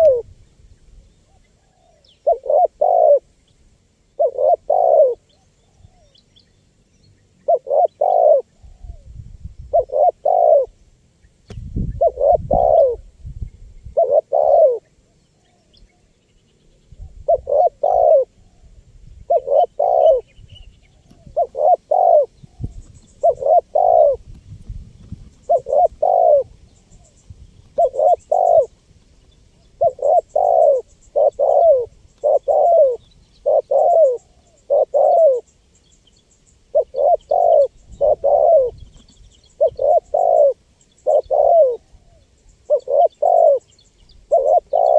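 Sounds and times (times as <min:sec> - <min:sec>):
dove cooing: 0:00.0 - 0:00.3, 0:01.2 - 0:03.3, 0:04.1 - 0:06.2, 0:07.4 - 0:10.8, 0:11.8 - 0:13.2, 0:13.9 - 0:15.6, 0:17.0 - 0:24.3, 0:25.0 - 0:28.8, 0:29.5 - 0:35.5, 0:36.6 - 0:44.9.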